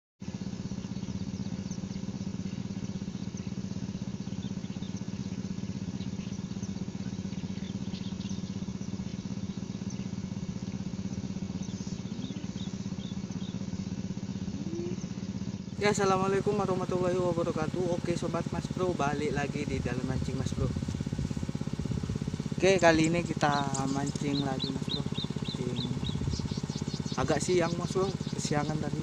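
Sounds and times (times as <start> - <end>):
small engine running: 0.2 - 29.0.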